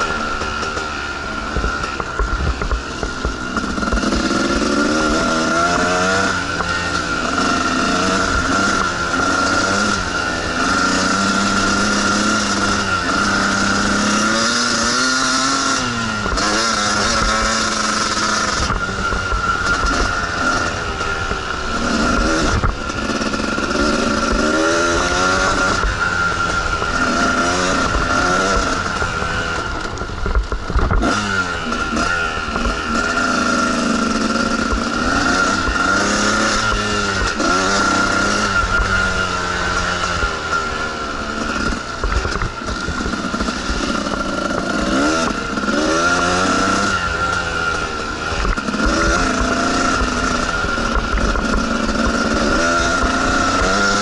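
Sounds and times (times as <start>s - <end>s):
two-stroke dirt bike engine: 0.0s - 54.0s.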